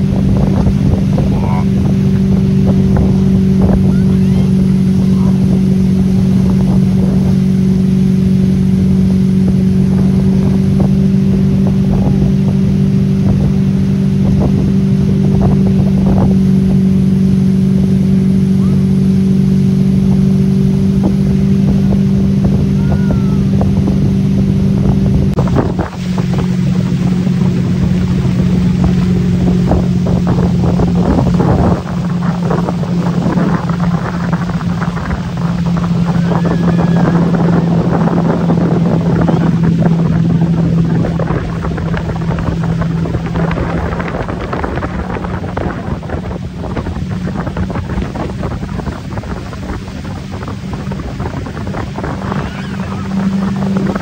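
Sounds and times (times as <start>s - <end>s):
motorboat engine running: 0.0s - 54.0s
wake rushing: 0.0s - 54.0s
wind buffeting microphone: 0.0s - 54.0s.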